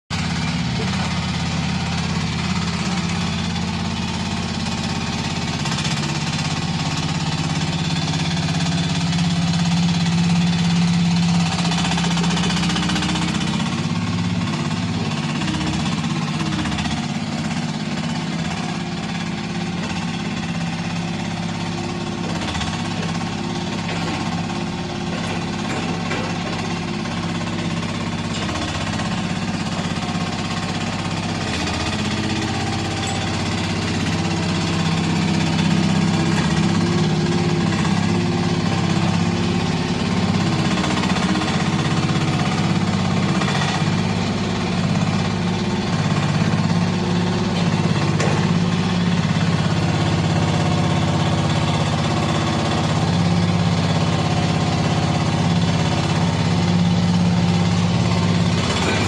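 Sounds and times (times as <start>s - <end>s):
excavator engine running: 0.1s - 59.0s.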